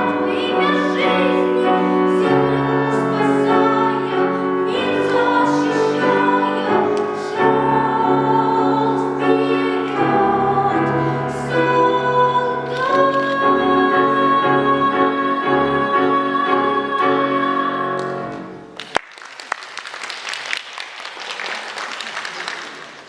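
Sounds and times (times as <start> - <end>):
child singing classical style: 0.0 - 18.5
piano accompaniment: 0.0 - 18.9.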